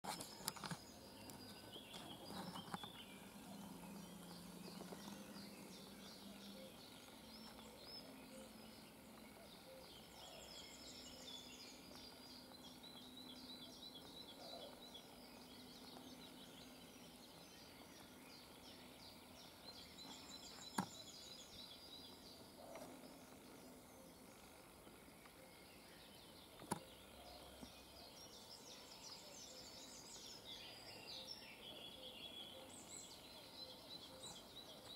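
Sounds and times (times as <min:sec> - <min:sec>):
faint birdsong: 0:00.0 - 0:34.9
low steady hum: 0:00.1 - 0:34.9.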